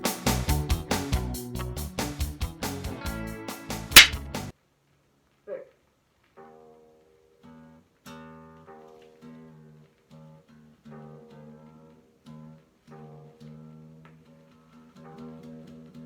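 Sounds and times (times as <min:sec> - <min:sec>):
guitar notes plucked: 0:00.0 - 0:04.5, 0:06.4 - 0:16.0.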